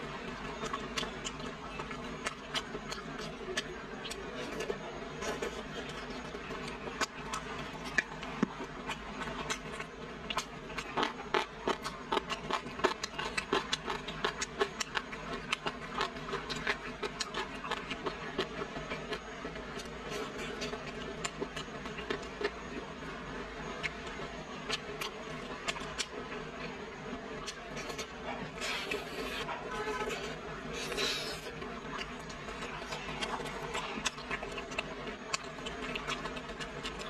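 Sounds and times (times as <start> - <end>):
low room hum: 0.0 - 37.0
chewing crunches: 0.4 - 22.9, 27.4 - 37.0.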